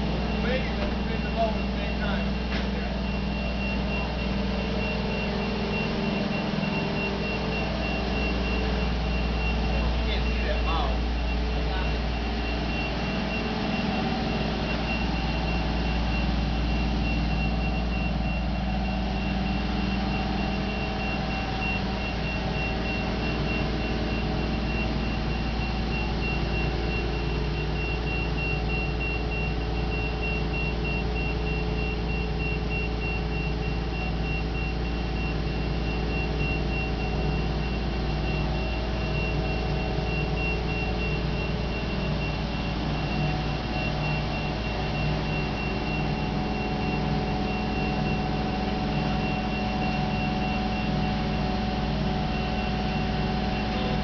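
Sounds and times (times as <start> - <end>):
crane engine humming: 0.0 - 54.0.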